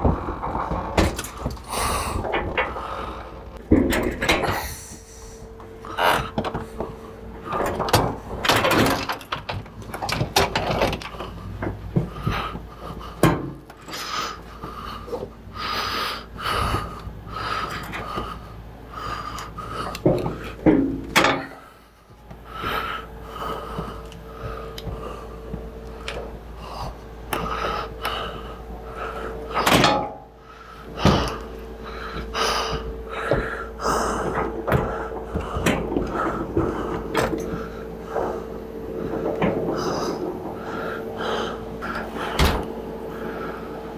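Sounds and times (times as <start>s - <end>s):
heavy machine clunking and scraping: 0.0s - 43.9s
steady hum: 0.0s - 43.9s.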